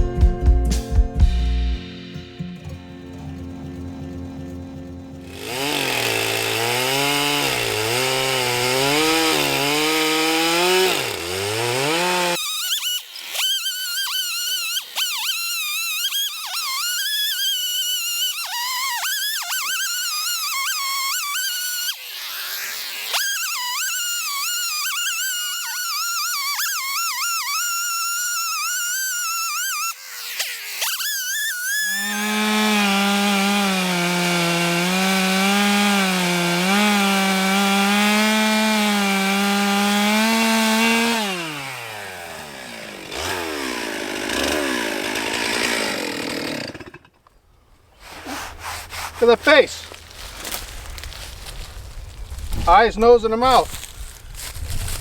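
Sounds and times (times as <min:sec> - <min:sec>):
chainsaw cutting wood: 0:05.2 - 0:55.0.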